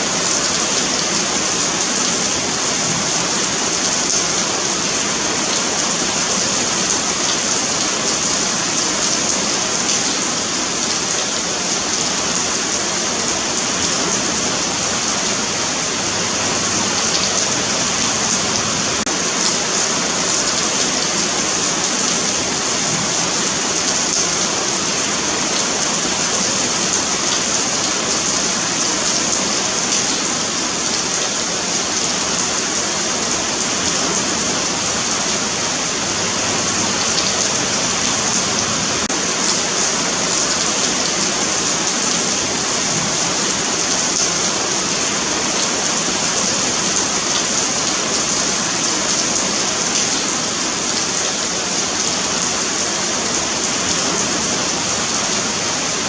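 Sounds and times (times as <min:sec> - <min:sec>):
rain on pavement: 0:00.0 - 0:56.0.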